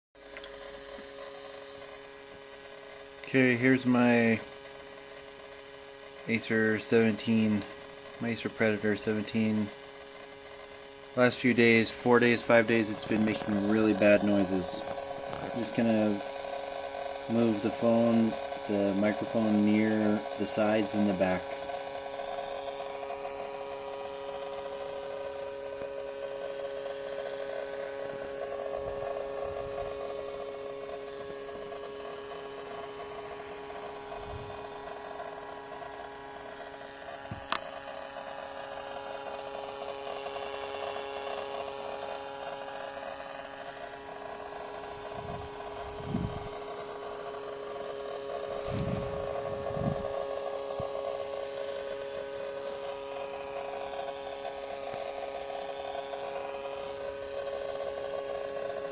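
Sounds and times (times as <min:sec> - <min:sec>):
laptop electrical whine: 0:00.2 - 0:58.9
rough grinding buzz: 0:00.2 - 0:58.9.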